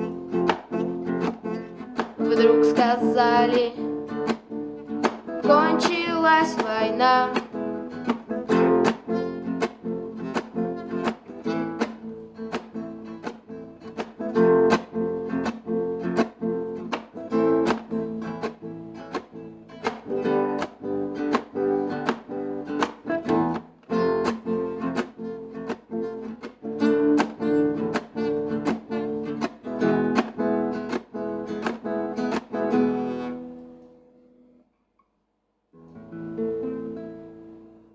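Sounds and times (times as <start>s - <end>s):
guitar strumming chords: 0.0s - 34.4s, 35.8s - 37.9s.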